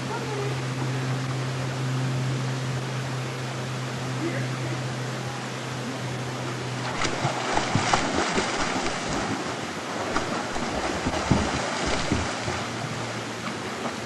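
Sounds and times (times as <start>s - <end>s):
flowing water: 0.0s - 14.0s.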